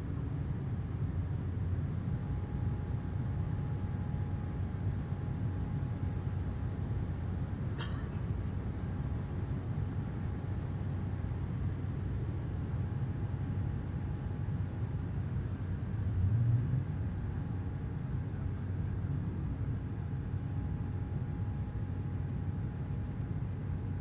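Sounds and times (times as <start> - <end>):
faint steady whine: 0.0 - 24.0
jet engine rumble in cabin: 0.0 - 24.0.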